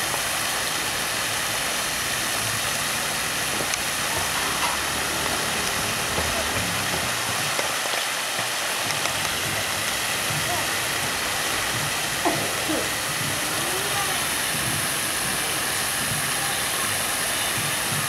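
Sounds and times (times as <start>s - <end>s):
pool water running and splashing: 0.0s - 18.0s.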